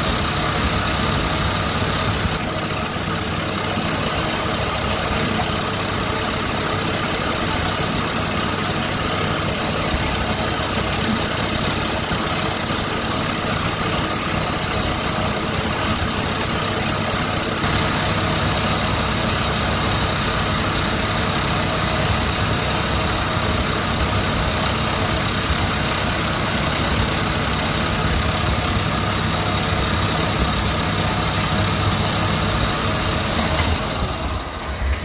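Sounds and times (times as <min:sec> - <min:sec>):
lathe machine hum: 0:00.0 - 0:35.0.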